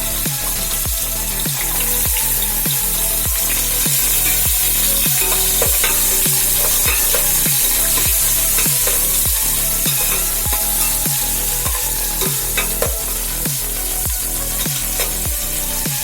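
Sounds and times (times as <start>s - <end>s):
background music with low beat: 0.0s - 16.0s
onions sizzling in hot oil: 0.0s - 16.0s.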